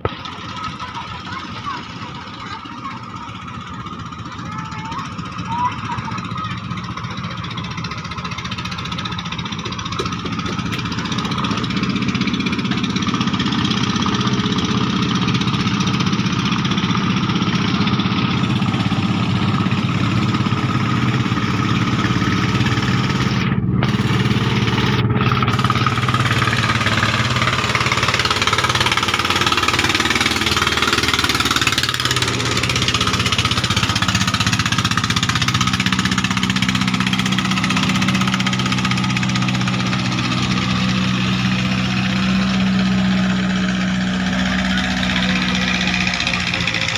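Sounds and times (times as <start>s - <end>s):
boat engine pulsing: 0.0s - 46.9s.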